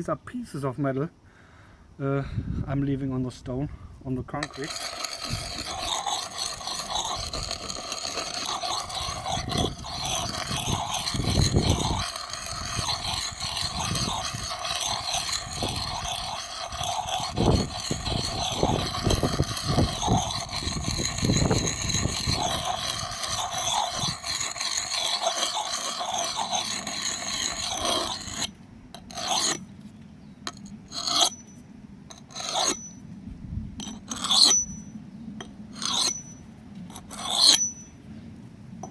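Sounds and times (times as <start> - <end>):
hatchet grinding on concrete: 4.3 - 29.7, 30.4 - 33.0, 33.8 - 38.0.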